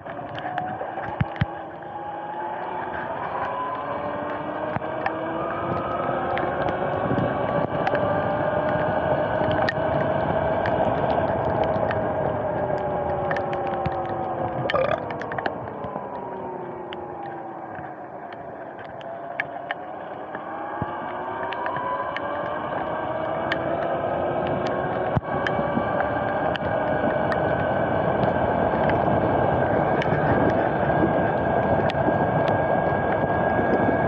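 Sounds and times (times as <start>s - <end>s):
small ticks: 0.0s - 29.1s.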